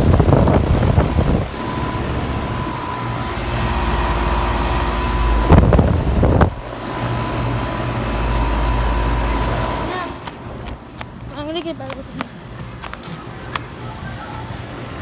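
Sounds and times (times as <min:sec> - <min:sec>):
air conditioner humming and whining: 0:00.0 - 0:15.0.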